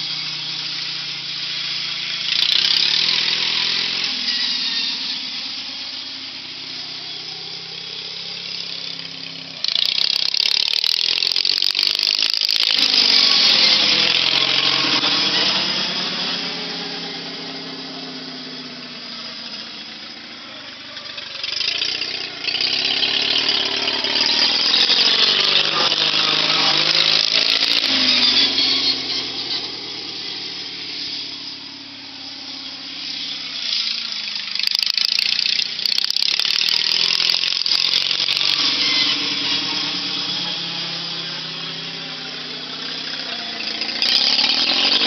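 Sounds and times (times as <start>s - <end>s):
riding lawn mower engine passing: 0.0s - 45.0s.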